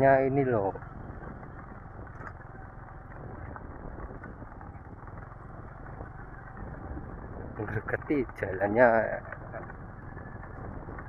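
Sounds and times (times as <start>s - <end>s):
motorcycle engine low speed: 0.0s - 11.0s
rattle of bike bouncing: 0.0s - 11.0s.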